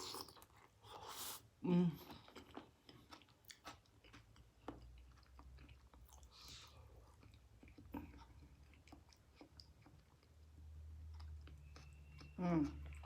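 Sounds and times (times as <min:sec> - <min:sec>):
chewing soft food: 0:00.0 - 0:13.0.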